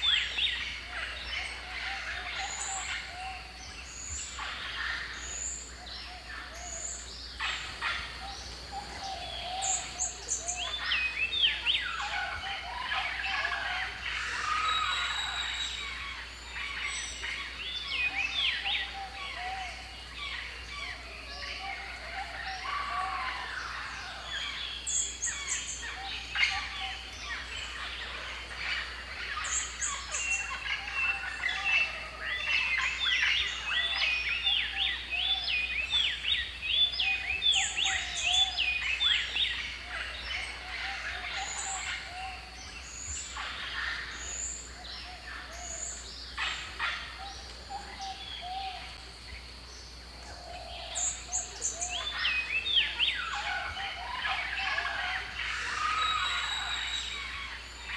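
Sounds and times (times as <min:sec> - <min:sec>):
birds chirping and trilling: 0:00.0 - 0:57.9.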